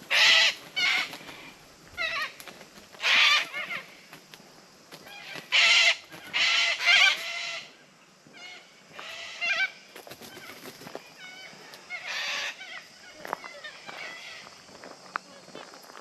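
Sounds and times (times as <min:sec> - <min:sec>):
quieter wavering bird calls: 0:00.0 - 0:02.4, 0:03.0 - 0:04.1, 0:05.0 - 0:14.7.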